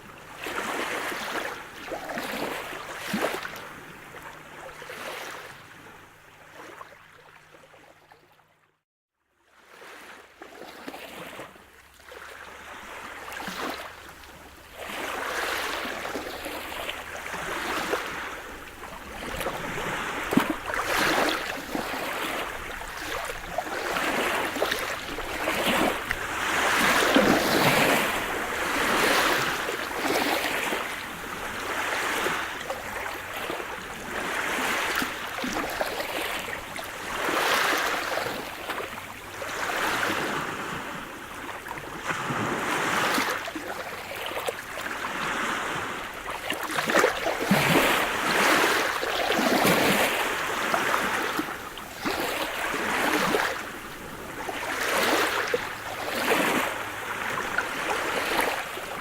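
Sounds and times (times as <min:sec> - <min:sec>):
waves breaking on shore: 0:00.0 - 0:07.2, 0:09.6 - 0:59.0.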